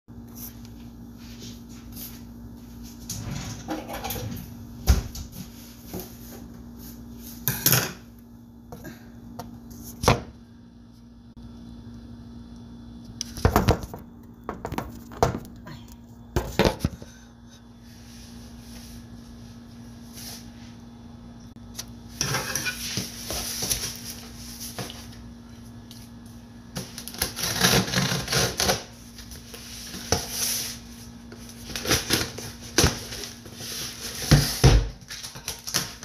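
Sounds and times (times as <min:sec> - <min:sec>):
steady low hum: 0:00.1 - 0:35.8.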